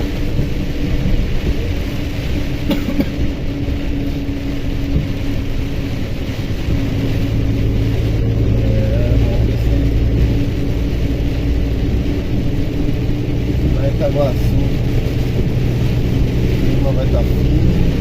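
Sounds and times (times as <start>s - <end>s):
deeper hum: 0.0s - 18.0s
truck diesel engine droning: 0.0s - 18.0s.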